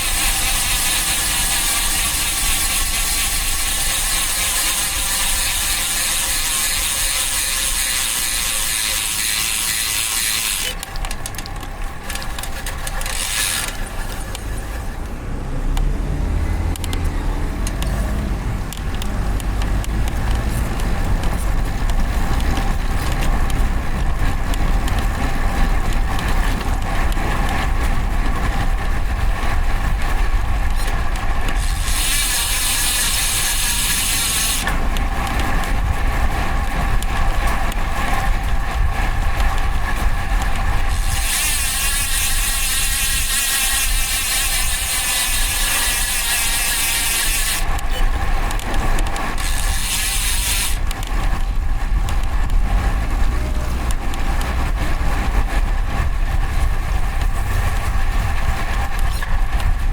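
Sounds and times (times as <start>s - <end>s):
bike freehub ticking: 0.0s - 14.6s, 18.6s - 52.7s
tyre and road rumble: 0.0s - 59.9s.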